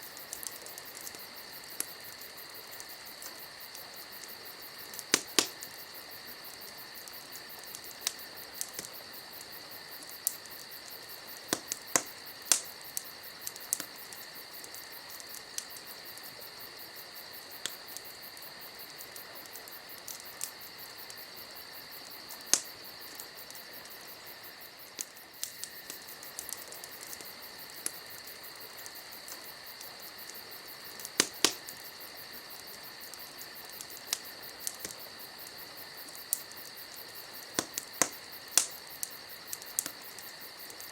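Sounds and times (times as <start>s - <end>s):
sharp pops from fire: 0.0s - 40.9s
wood fire crackling: 0.0s - 40.9s.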